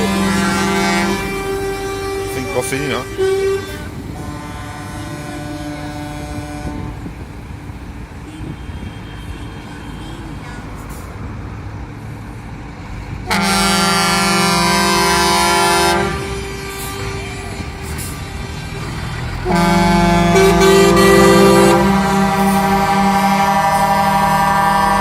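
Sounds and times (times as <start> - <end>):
truck air horn blasts: 0.0 - 7.2, 8.3 - 10.2, 13.2 - 25.0
low engine rumble: 0.0 - 25.0.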